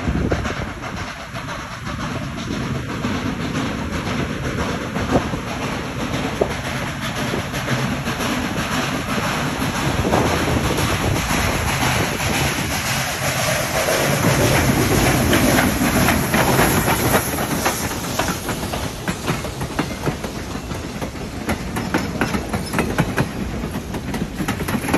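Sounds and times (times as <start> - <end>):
train wheels clicking over rail joints: 0.0 - 24.9.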